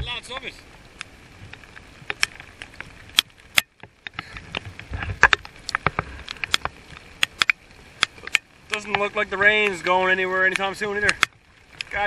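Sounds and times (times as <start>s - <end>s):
boat under way: 0.0s - 12.0s
raindrops tapping: 0.0s - 12.0s.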